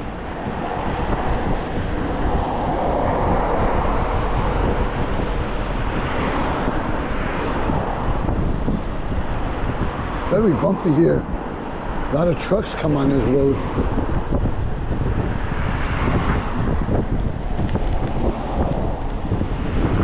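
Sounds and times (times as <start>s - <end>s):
tyre and road rumble: 0.0s - 20.0s
wind rushing over microphone: 0.0s - 20.0s.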